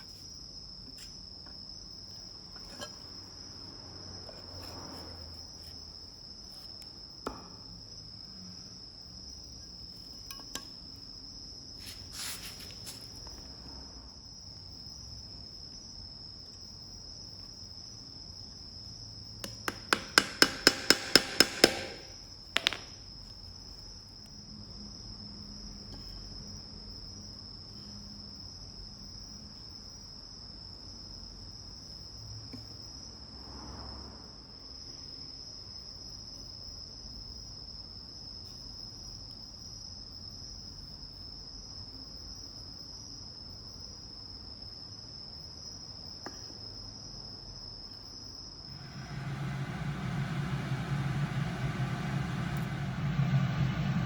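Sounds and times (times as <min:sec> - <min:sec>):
crickets trilling: 0:00.0 - 0:50.3.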